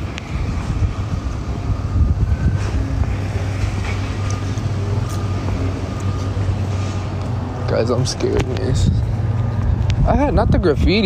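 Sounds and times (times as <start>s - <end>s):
passing cars rumbling: 0.0s - 11.0s.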